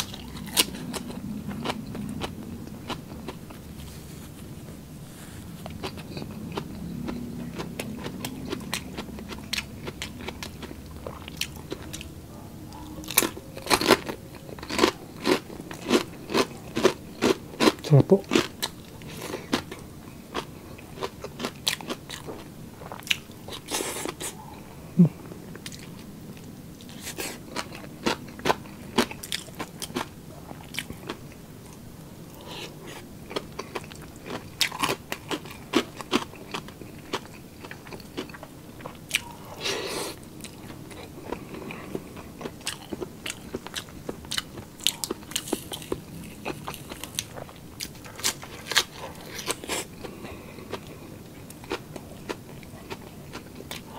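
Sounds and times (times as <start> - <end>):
chewing crisp food: 0.0 - 53.9.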